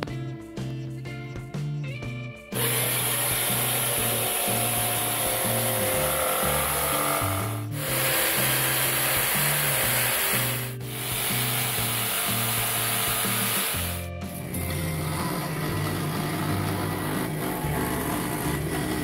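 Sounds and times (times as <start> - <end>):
background music: 0.0 - 19.0
jigsaw cutting wood: 2.6 - 19.0
scroll saw cutting: 2.6 - 19.0.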